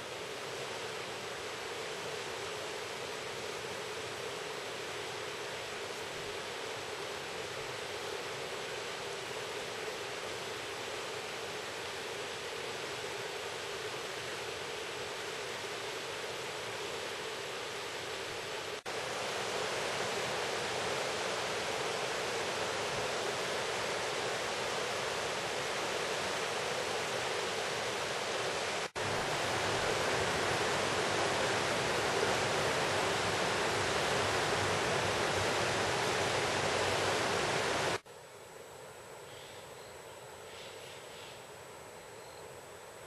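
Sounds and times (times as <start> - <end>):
river rushing over rapids: 0.0 - 38.0.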